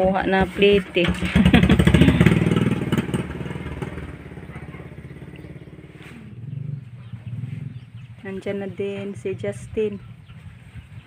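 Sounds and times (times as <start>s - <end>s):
small motorcycle engine: 0.6s - 10.6s.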